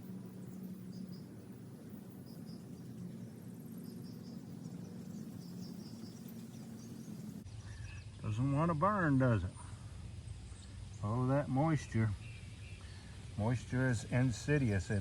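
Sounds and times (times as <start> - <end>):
insects chirping and trilling: 0.0 - 15.0
steady low hum: 0.0 - 15.0.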